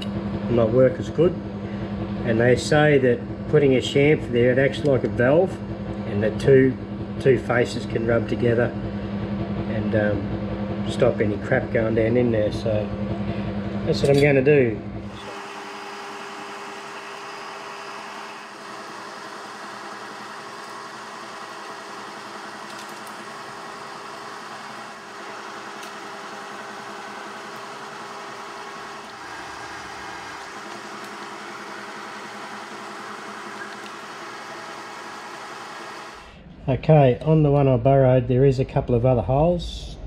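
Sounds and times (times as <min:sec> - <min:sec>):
milling machine humming: 0:00.0 - 0:36.4.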